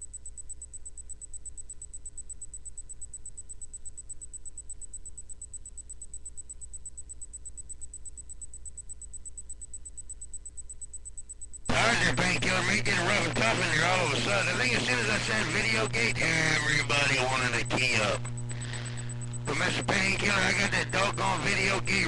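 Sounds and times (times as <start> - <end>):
faint pulsing high-pitched whine: 0.0 - 22.0
low electrical hum: 0.0 - 22.0.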